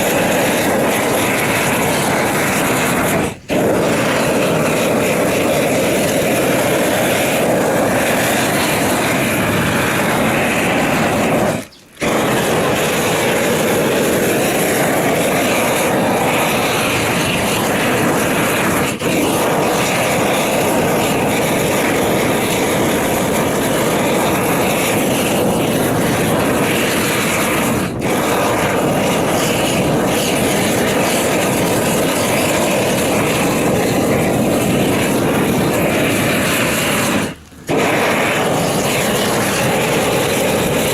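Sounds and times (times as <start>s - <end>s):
roofing torch burning: 0.0s - 40.9s.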